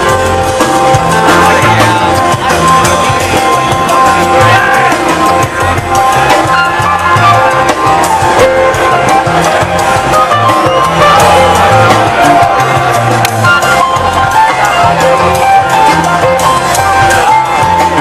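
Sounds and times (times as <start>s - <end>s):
moving bass line: 0.0s - 18.0s
rock band playing live: 0.0s - 18.0s
sustained guitar tones: 0.0s - 18.0s.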